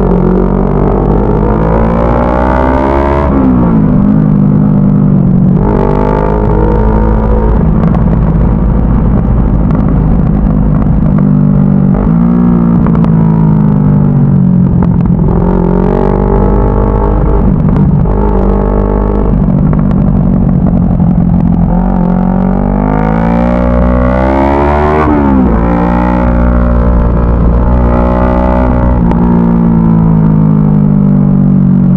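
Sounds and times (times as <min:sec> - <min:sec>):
low rumble: 0:00.0 - 0:31.9
motorcycle engine accelerating: 0:00.0 - 0:31.9.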